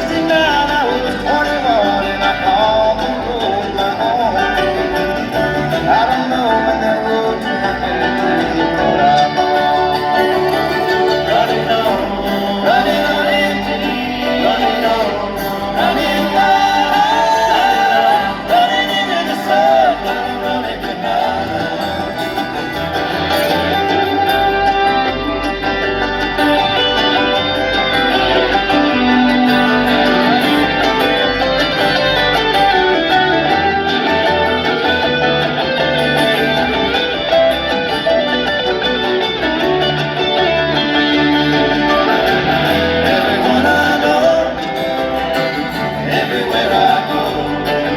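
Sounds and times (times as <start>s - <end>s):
banjo: 0.0s - 47.9s
bluegrass band playing: 0.0s - 47.9s
person singing: 0.0s - 47.9s
picked acoustic guitar: 0.0s - 47.9s.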